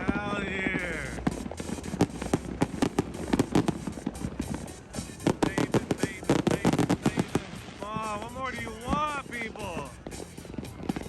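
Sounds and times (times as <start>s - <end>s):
firecrackers popping: 0.0s - 11.0s
music: 0.0s - 11.0s.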